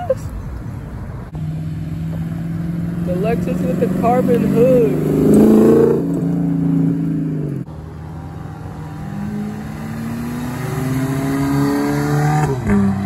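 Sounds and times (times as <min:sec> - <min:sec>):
car engine pulling out: 0:00.7 - 0:13.0
car engine accelerating away: 0:01.6 - 0:13.0.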